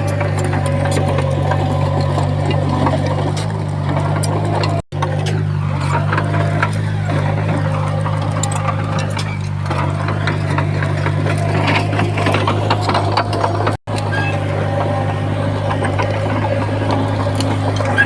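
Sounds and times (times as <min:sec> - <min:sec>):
bulldozer diesel engine running: 0:00.0 - 0:18.0
clicks and rattles: 0:00.0 - 0:18.0.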